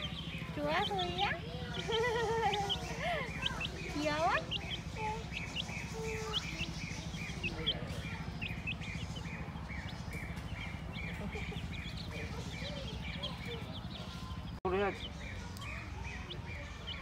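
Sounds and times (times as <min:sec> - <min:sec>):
baby chicks peeping: 0:00.0 - 0:17.0
low steady hum: 0:00.0 - 0:17.0.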